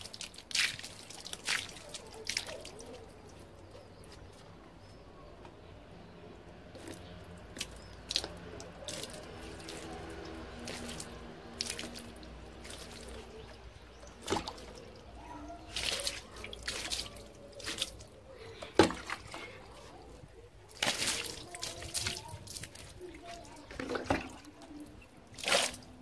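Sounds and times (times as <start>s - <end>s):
water pouring and splashing on soil: 0.0s - 4.1s, 6.7s - 26.0s.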